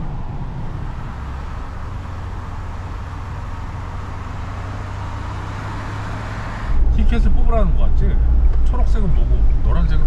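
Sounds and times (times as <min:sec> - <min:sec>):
constant low hum: 0:00.0 - 0:10.0
engine and road noise in a cab: 0:00.0 - 0:10.0.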